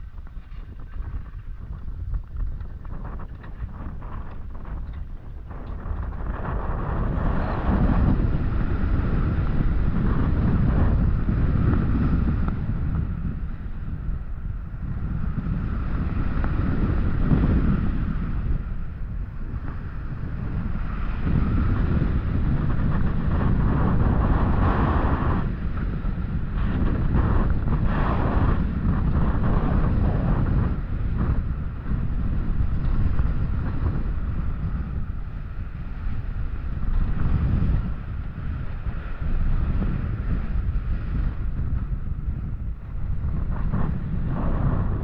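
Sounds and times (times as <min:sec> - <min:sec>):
roller coaster rumbling on track: 0:00.0 - 0:45.0
wind buffeting microphone: 0:00.0 - 0:45.0.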